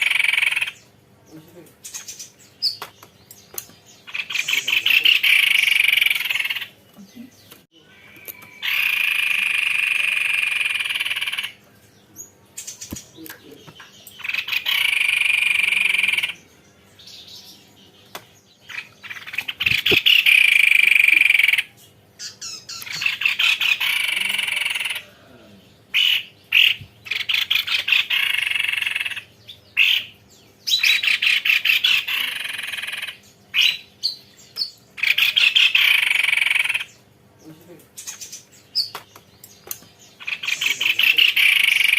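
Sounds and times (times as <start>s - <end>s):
bird singing rolling trills: 0.0s - 41.9s.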